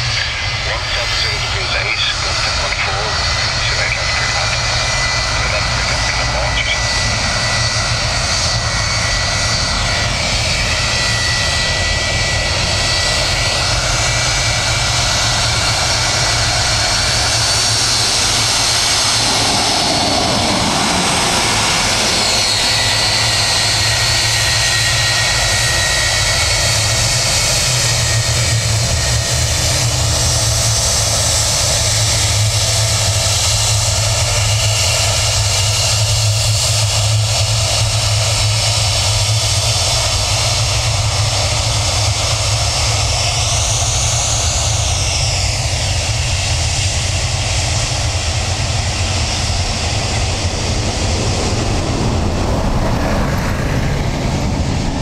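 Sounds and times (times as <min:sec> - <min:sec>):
high turbine whine: 0:00.0 - 0:55.0
jet engine roar: 0:00.0 - 0:55.0.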